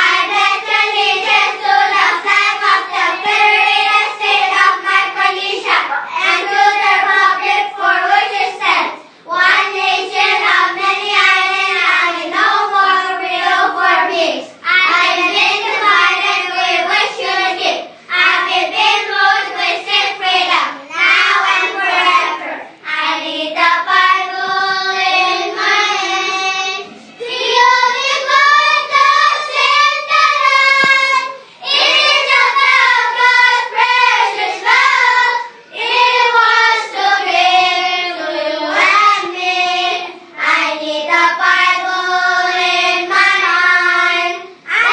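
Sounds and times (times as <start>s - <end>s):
child singing: 0.0s - 44.9s.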